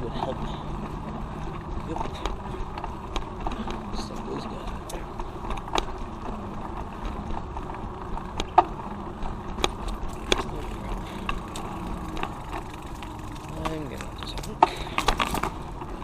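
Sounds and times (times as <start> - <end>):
bicycle clicks and rattles: 0.0 - 16.0
bicycle rushing noise: 0.0 - 16.0.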